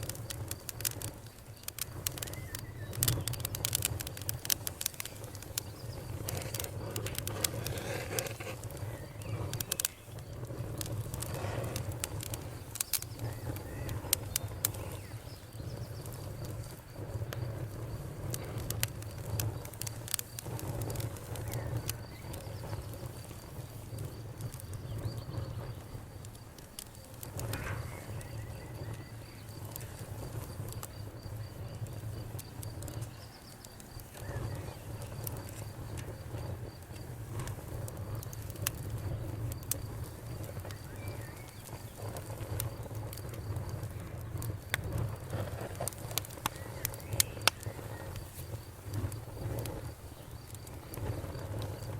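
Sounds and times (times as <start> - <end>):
campfire crackling and popping: 0.0 - 51.9
cricket trilling: 0.0 - 51.9.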